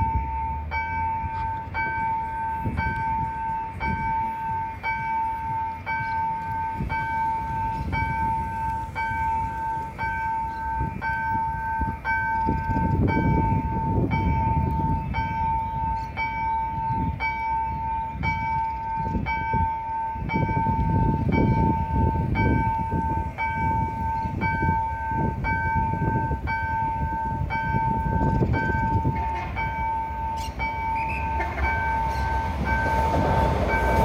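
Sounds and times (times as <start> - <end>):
level crossing warning bell: 0.0 - 34.0.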